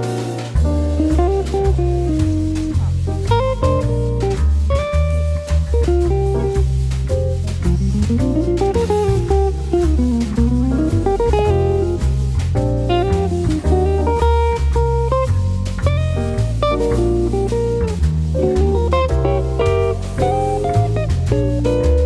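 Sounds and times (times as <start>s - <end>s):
jazzy guitar music: 0.0s - 22.0s
light drums: 0.0s - 22.0s
walking bass line: 0.0s - 22.0s.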